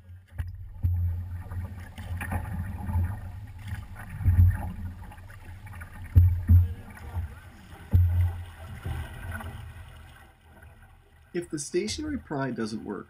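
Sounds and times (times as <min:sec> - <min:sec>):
paddles swishing through water: 0:00.0 - 0:13.0.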